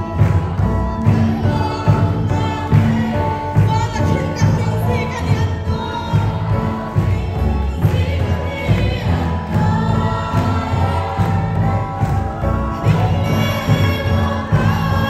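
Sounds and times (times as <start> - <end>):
bass beat: 0.0 - 15.0
gospel music: 0.0 - 15.0
many voices singing: 0.0 - 15.0.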